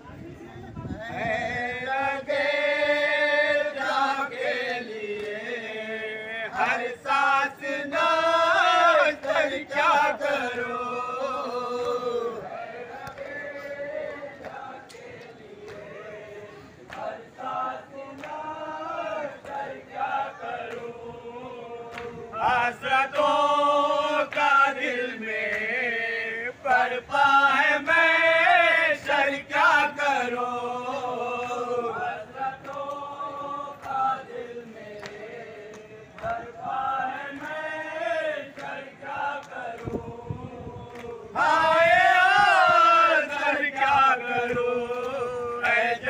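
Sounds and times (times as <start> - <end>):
men chanting a lament: 1.0 - 46.0.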